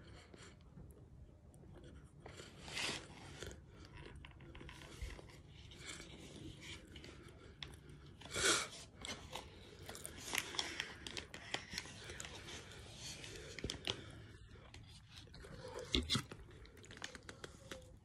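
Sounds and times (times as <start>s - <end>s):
chewing crunchy cornstarch: 0.1s - 8.3s, 8.9s - 18.0s.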